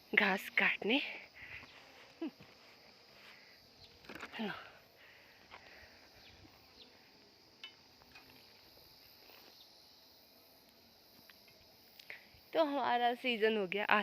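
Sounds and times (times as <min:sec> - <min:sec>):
faint insect drone: 0:00.0 - 0:14.0.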